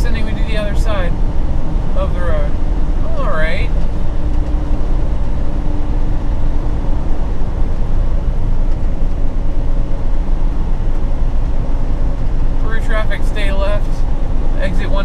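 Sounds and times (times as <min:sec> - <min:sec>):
road rumble: 0:00.0 - 0:15.0
truck engine drone: 0:00.0 - 0:15.0.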